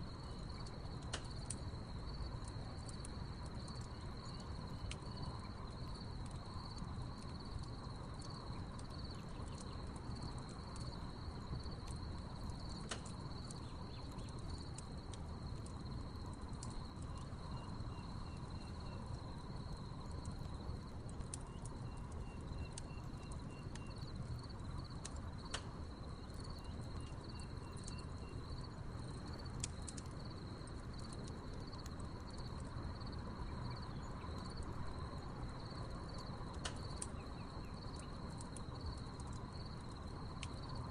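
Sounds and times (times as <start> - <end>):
campfire crackling and popping: 0.1 - 40.9
crickets chirping: 0.1 - 40.9.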